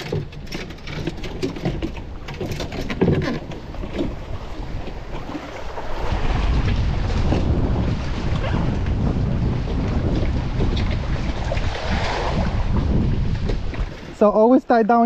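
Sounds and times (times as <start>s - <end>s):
shallow water sloshing and splashing: 0.0s - 15.0s
wind buffeting microphone: 0.0s - 15.0s.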